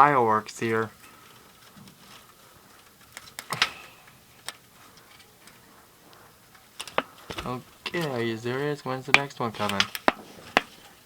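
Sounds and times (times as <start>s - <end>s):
quiet hiss: 0.0s - 11.0s
distant fireworks popping: 0.8s - 11.0s.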